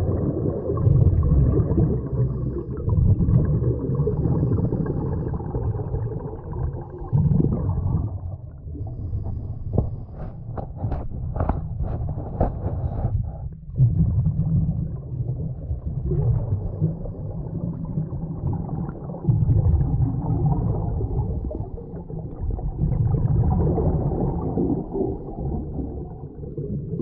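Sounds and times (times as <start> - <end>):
underwater regulator bubbles: 0.0 - 27.0.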